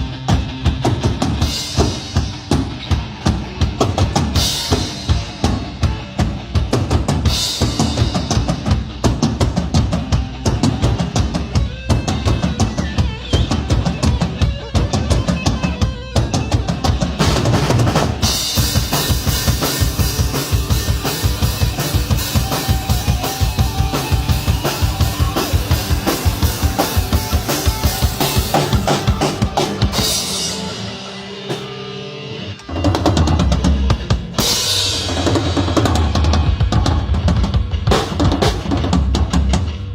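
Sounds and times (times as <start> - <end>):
drum-heavy music: 0.0 - 39.9.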